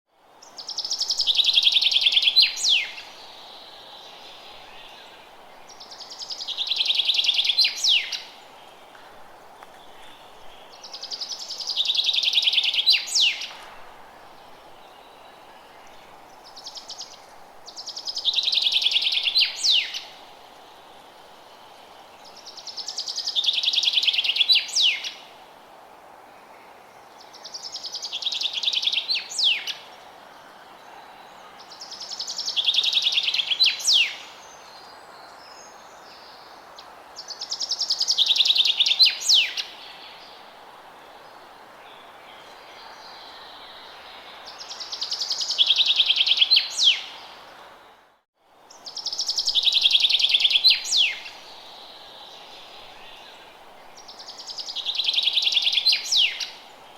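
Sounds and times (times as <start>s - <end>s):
steady ambient hiss: 0.2s - 56.9s.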